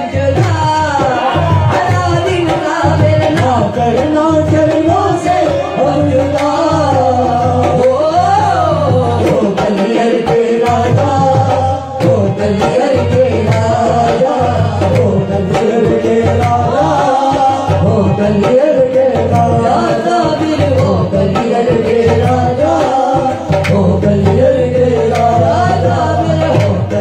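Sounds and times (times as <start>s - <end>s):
hand drum beating: 0.0s - 27.0s
harmonium: 0.0s - 27.0s
man singing: 0.0s - 27.0s.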